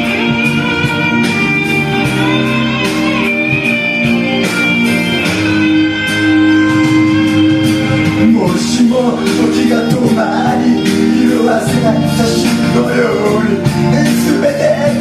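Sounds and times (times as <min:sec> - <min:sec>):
instrumental backing track with guitar: 0:00.0 - 0:15.0.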